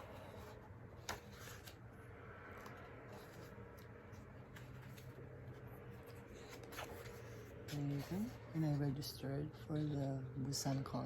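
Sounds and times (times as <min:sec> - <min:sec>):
paper pages rustling: 0:00.0 - 0:09.1.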